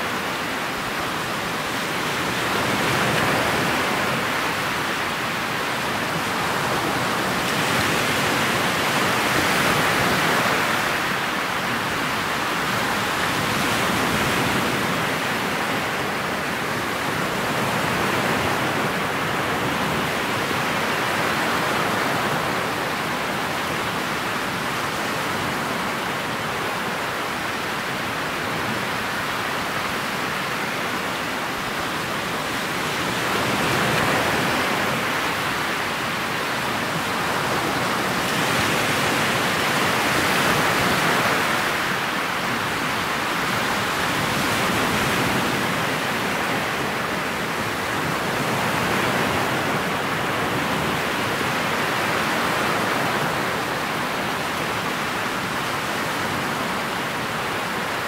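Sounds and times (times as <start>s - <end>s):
water rushing along hull: 0.0s - 58.0s
wind: 0.0s - 58.0s.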